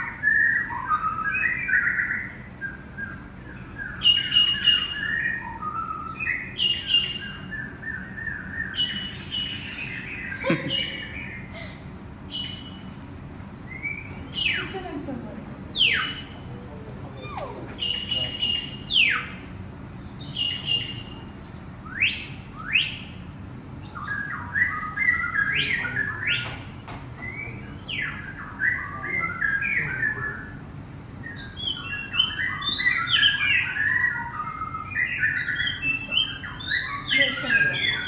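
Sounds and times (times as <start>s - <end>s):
birds chattering: 0.0s - 38.0s
birds whistling: 0.0s - 38.0s.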